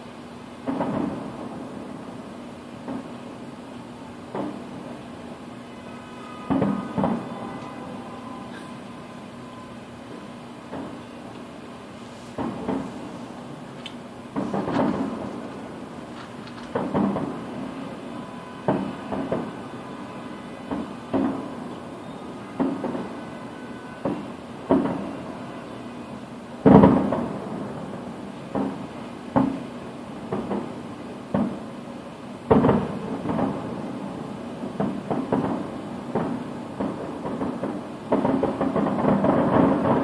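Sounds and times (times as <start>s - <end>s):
fireworks bursting with echoes: 0.0s - 40.0s.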